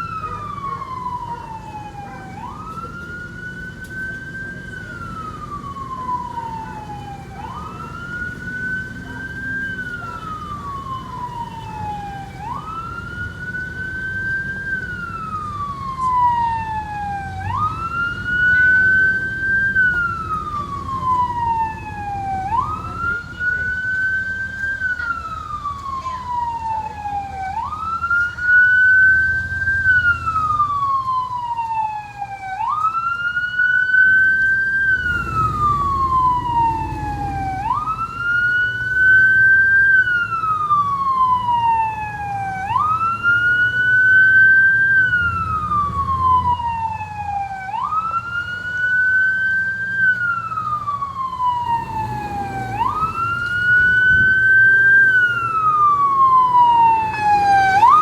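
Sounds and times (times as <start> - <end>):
vehicle engines rumbling: 0.0 - 58.0
electronic siren wailing: 4.8 - 58.0.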